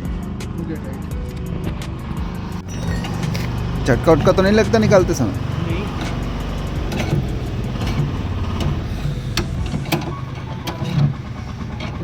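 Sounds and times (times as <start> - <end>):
engine idling: 0.0 - 12.0
sharp metallic clicks: 1.4 - 12.0.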